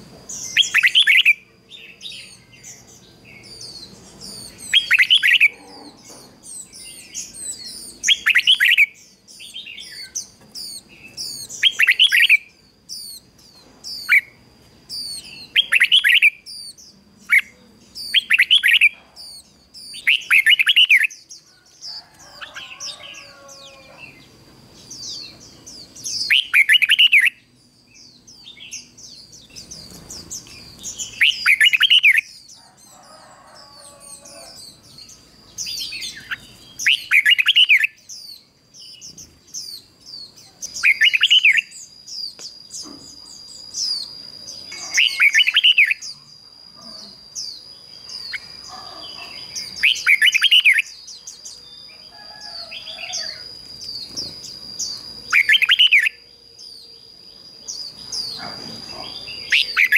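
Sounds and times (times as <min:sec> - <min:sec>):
faint high bird chirps: 0:00.0 - 0:59.9.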